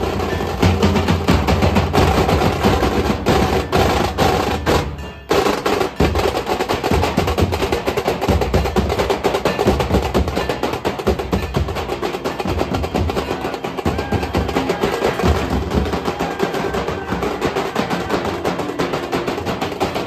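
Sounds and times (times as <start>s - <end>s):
dhol drums beaten fast: 0.0s - 20.0s.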